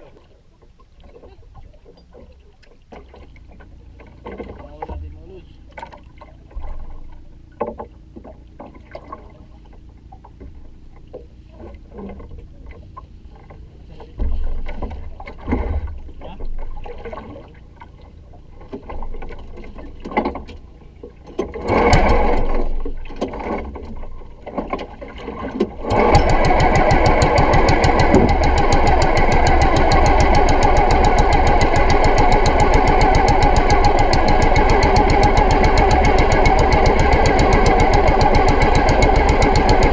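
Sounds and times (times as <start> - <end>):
small boat engine running: 0.0 - 39.9.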